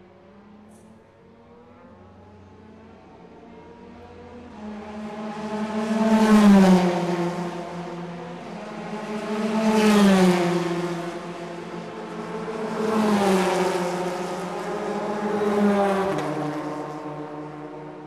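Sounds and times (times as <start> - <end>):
rc race cars passing: 1.3 - 18.0.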